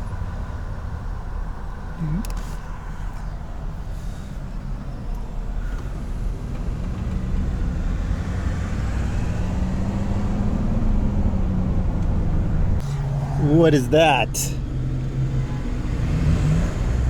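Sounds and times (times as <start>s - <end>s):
road noise: 0.0s - 17.0s
van engine accelerating: 0.0s - 17.0s.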